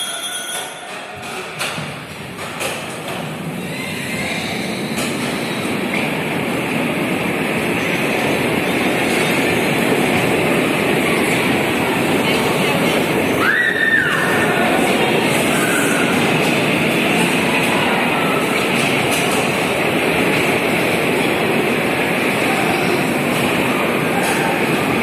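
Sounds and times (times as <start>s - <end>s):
bumper cars rumbling on steel floor: 1.1s - 25.0s.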